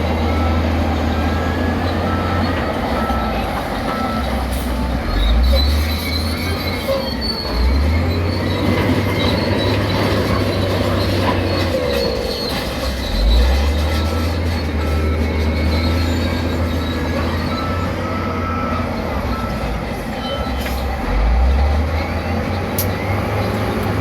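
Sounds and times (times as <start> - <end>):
bulldozer diesel engine under load: 0.0 - 24.0
steel tracks squealing: 0.0 - 24.0.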